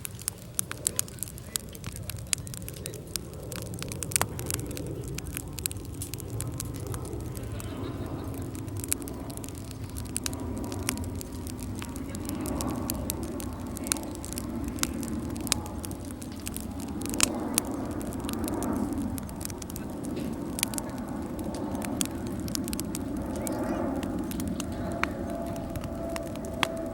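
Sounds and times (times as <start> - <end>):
low steady rumble: 0.0 - 26.9
sharp pops and snaps: 0.0 - 26.9
wood fire crackling: 0.0 - 26.9.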